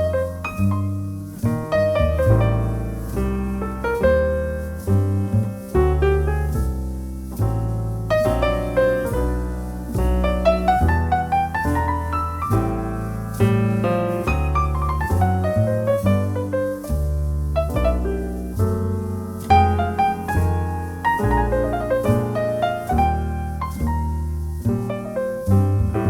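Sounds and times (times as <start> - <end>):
jazz piano ballad: 0.0 - 26.0.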